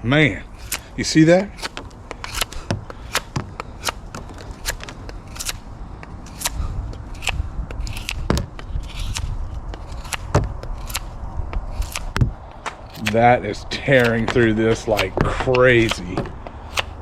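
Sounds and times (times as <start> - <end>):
knife slicing through rope: 0.5 - 17.0
low rumble: 1.9 - 16.7.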